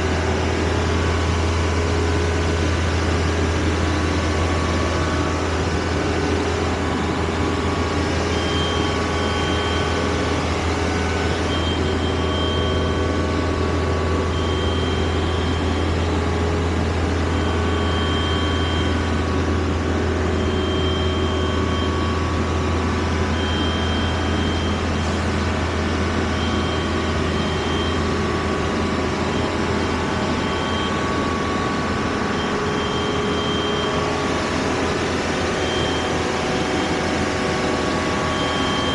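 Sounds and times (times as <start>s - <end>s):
engine droning: 0.0s - 38.9s.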